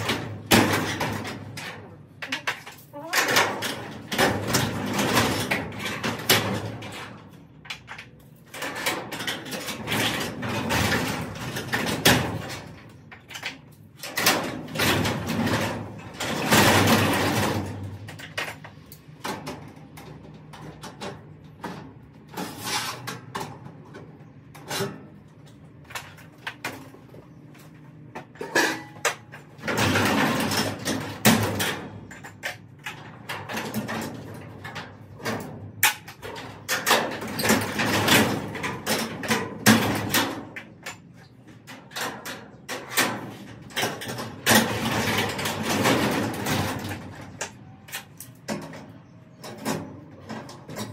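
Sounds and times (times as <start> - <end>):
garage door rollers rattling: 0.0 - 50.9.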